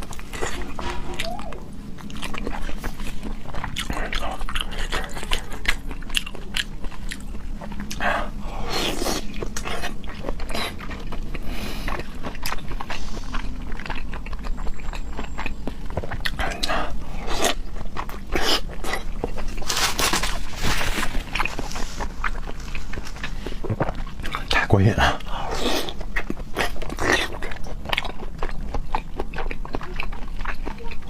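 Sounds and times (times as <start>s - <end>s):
wet chewing with mouth clicks: 0.0s - 31.0s.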